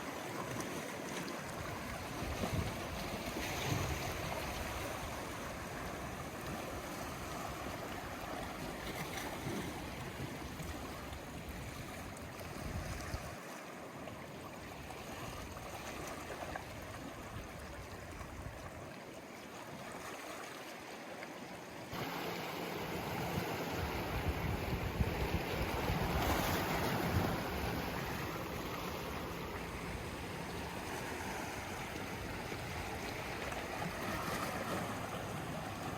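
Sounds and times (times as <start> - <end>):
sea waves washing on shore: 0.0 - 35.9.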